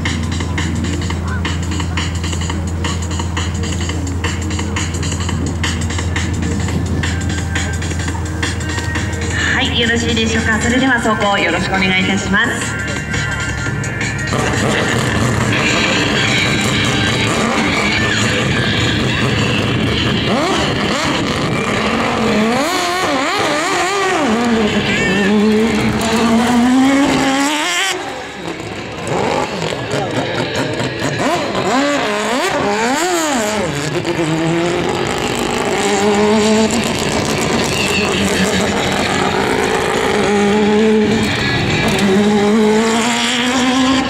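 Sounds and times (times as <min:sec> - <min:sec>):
race car rotary engine revving: 0:00.0 - 0:44.0.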